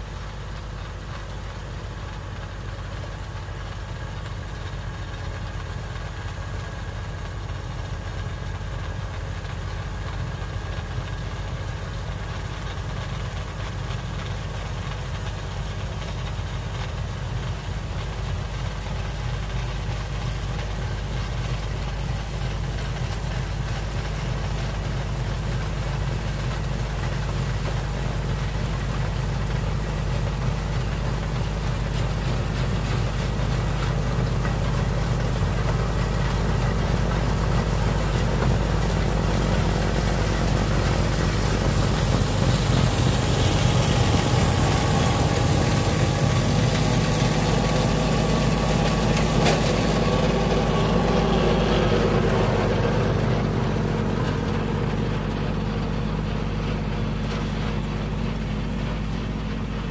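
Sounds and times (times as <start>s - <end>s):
tractor diesel engine running: 0.0s - 59.9s
snowblower throwing snow: 8.4s - 59.9s.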